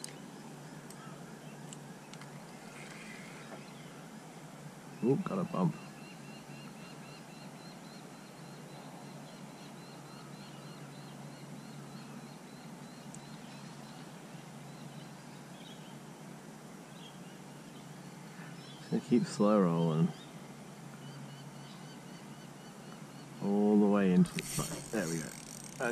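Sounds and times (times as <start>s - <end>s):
faint background noise: 0.0s - 25.9s.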